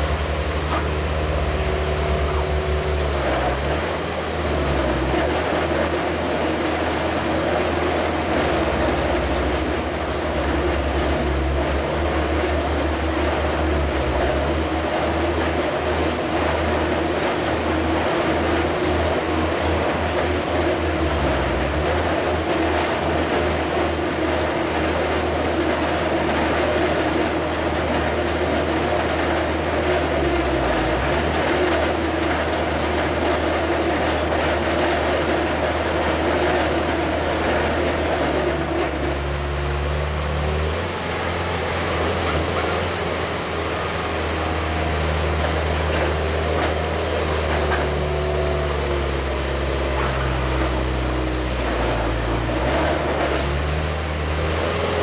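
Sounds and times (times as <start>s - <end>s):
truck engine and hydraulic drive: 0.0s - 55.0s.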